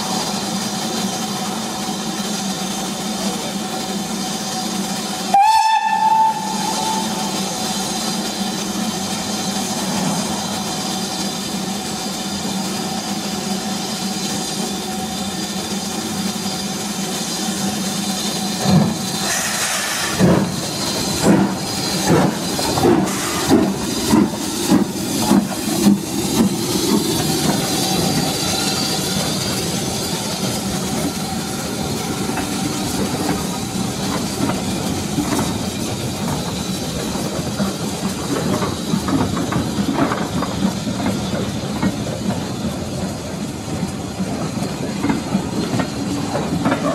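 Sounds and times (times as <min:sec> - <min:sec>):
steam locomotive hissing: 0:00.0 - 0:46.9
train rolling: 0:00.0 - 0:46.9.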